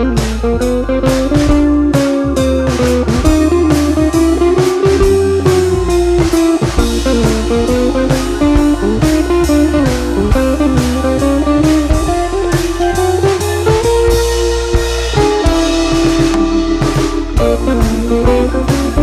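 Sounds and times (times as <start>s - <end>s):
bass: 0.0s - 19.0s
blues guitar music: 0.0s - 19.0s
drum beat: 0.0s - 19.0s.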